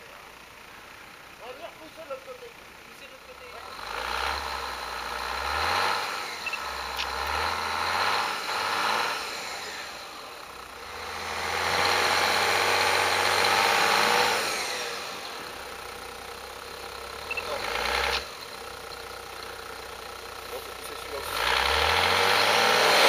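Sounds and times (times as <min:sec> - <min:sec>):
engine revving: 0:01.4 - 0:23.0.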